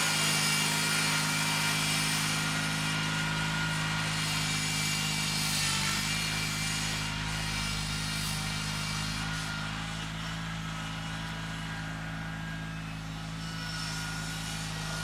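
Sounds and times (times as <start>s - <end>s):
garden tractor engine under load: 0.0s - 15.0s.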